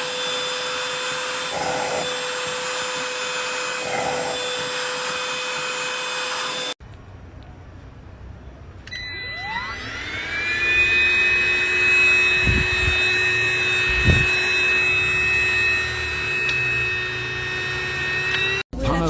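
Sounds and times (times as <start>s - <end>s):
handheld vacuum cleaner motor whine: 0.0s - 6.8s, 8.9s - 18.7s.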